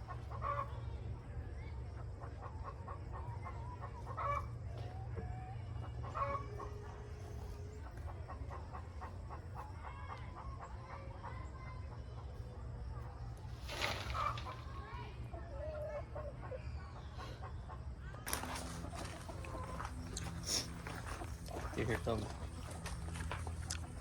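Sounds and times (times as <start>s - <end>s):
chickens clucking: 0.0s - 0.9s, 1.9s - 24.0s.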